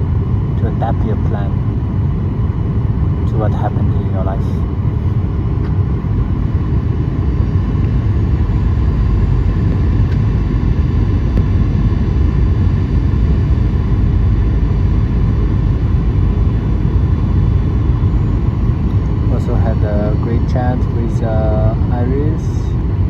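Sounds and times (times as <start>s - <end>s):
airliner engines rumbling in cabin: 0.0s - 23.0s.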